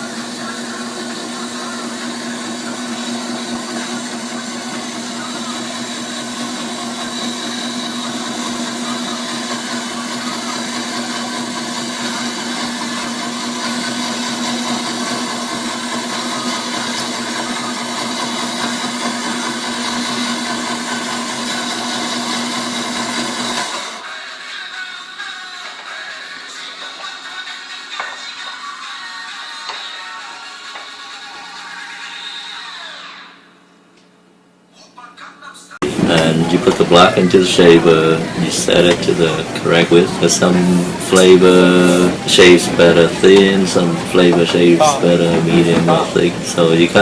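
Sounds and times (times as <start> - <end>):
ice shaving machine motor humming: 0.0 - 33.4, 35.8 - 47.0.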